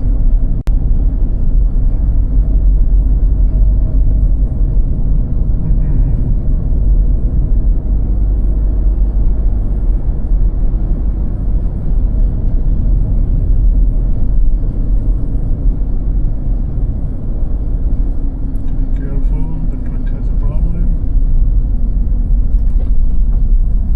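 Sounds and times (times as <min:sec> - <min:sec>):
car driving rumble: 0:00.0 - 0:23.9.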